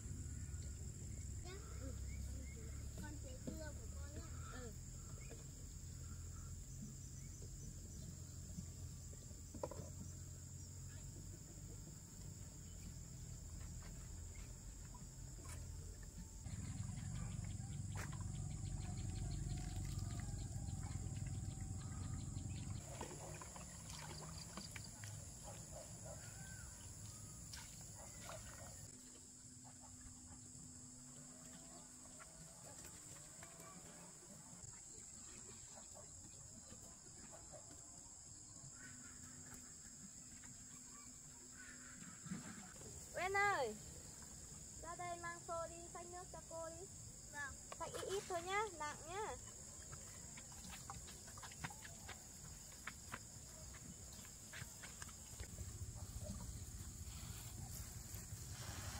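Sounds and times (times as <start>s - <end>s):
insects chorus: 0.0s - 58.9s.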